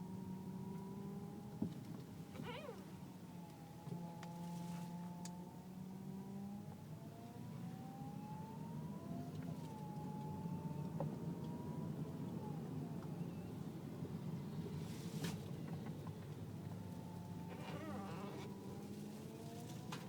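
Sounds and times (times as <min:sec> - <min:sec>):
engine hum: 0:00.0 - 0:20.0
power steering whine: 0:00.0 - 0:20.0.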